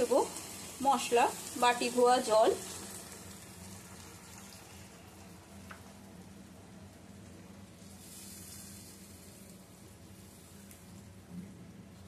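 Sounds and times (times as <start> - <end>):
faint sizzling in a wok: 0.0 - 12.0.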